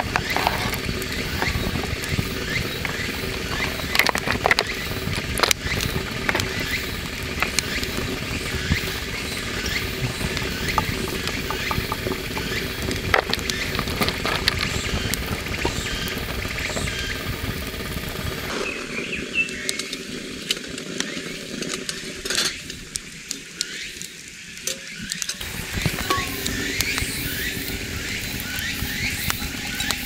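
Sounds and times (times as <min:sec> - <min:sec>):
steady rushing noise: 0:00.0 - 0:22.0, 0:25.4 - 0:30.0
campfire crackling and popping: 0:00.0 - 0:30.0.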